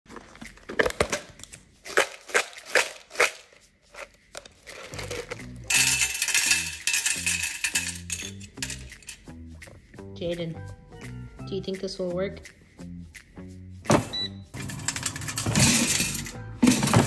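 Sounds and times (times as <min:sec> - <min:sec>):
background music with low beat: 0:02.5 - 0:17.0.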